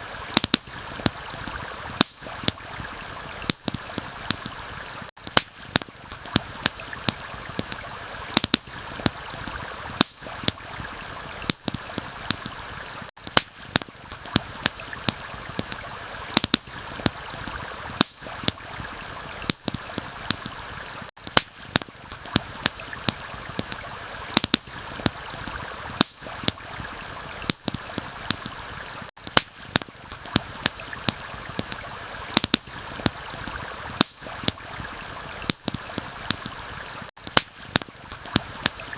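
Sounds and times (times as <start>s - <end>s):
campfire crackling and popping: 0.0s - 38.9s
flowing water rushing: 0.0s - 38.9s.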